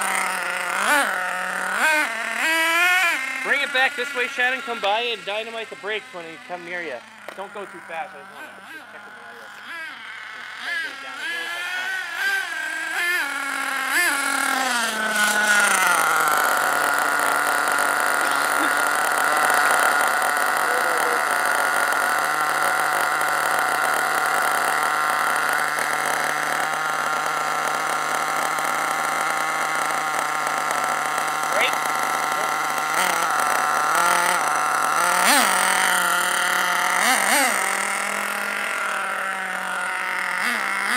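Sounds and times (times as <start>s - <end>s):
small engine revving and idling: 0.0s - 40.9s.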